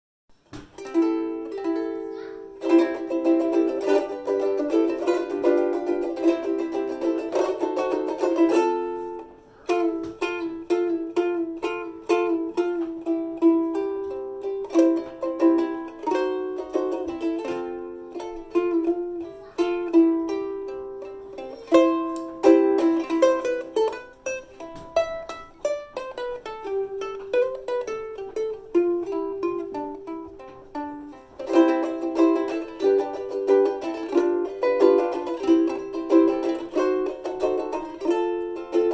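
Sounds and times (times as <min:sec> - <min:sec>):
ukulele strumming and plucking: 0:00.3 - 0:38.9.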